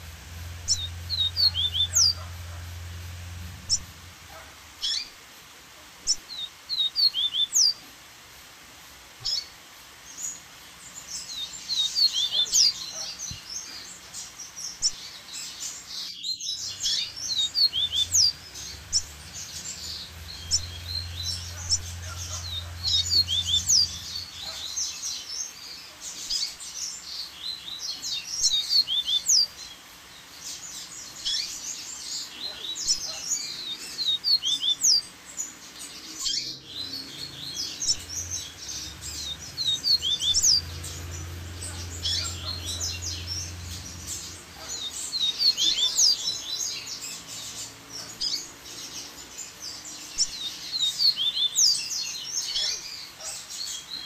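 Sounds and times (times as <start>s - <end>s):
birds chirping and trilling: 0.0s - 5.2s, 6.0s - 7.9s, 9.2s - 54.0s.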